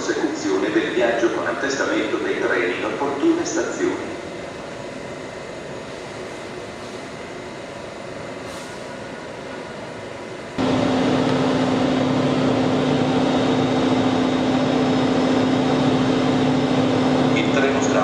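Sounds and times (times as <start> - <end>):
quiet railway platform noise: 0.0 - 18.0
train engine low hum: 0.0 - 18.0.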